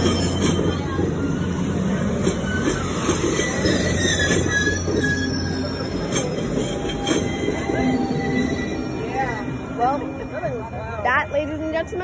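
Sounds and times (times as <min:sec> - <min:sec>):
railroad cars rumbling past: 0:00.0 - 0:12.0
wheels squealing on rails: 0:00.0 - 0:12.0.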